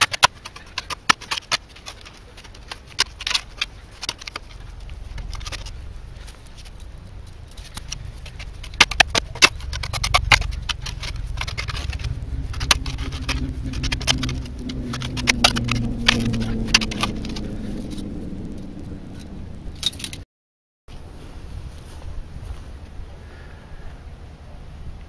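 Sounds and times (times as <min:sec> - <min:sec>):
spade scraping stony soil: 0:00.0 - 0:20.1.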